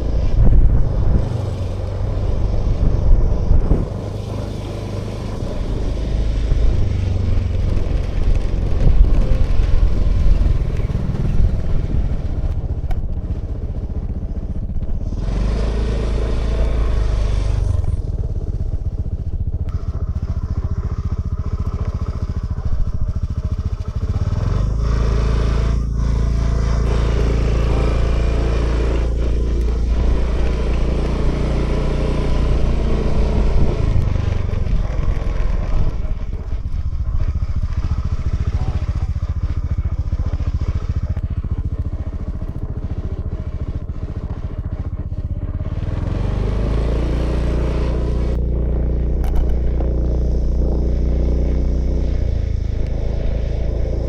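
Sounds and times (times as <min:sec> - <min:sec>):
scooter engine running: 0:00.0 - 0:54.0
wind and road noise: 0:00.0 - 0:54.0.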